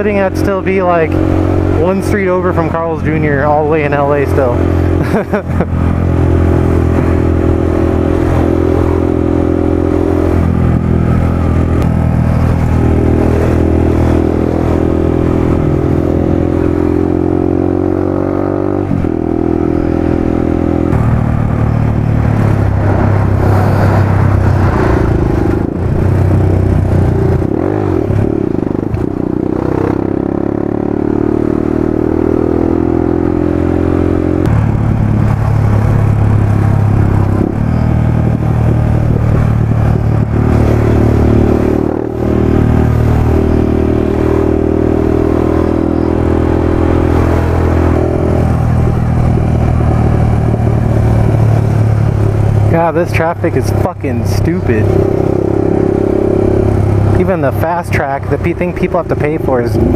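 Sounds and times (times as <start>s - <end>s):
wind rush: 0.0s - 30.7s, 32.0s - 57.2s
motorcycle engine running: 0.0s - 59.9s.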